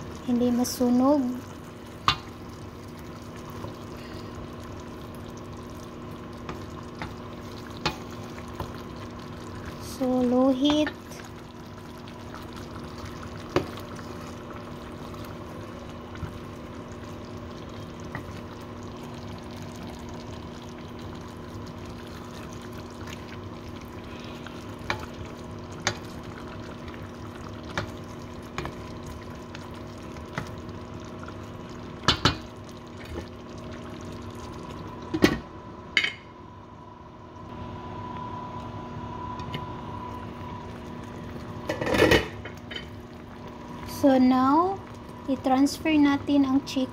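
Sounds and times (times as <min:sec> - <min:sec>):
sauce bubbling and sizzling: 0:00.0 - 0:46.9
steady hum: 0:00.0 - 0:46.9.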